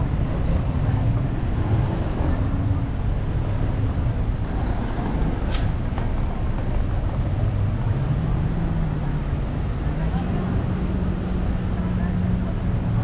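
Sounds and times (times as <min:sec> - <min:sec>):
passing traffic rumble: 0:00.0 - 0:13.0.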